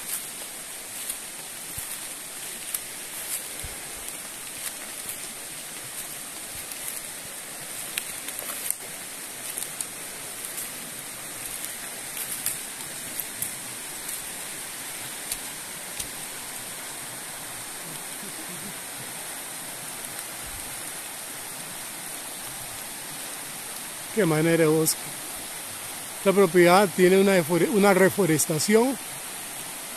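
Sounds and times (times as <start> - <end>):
creek water rushing: 0.0 - 29.9.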